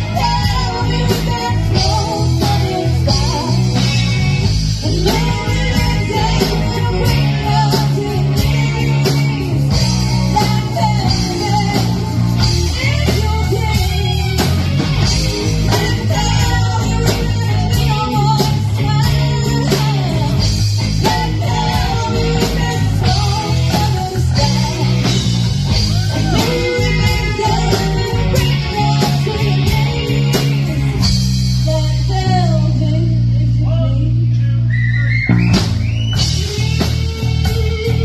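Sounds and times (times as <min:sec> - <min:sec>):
person singing: 0:00.0 - 0:14.6, 0:15.2 - 0:34.4
bass line: 0:00.0 - 0:38.0
drums: 0:00.0 - 0:38.0
electric guitar: 0:00.0 - 0:38.0.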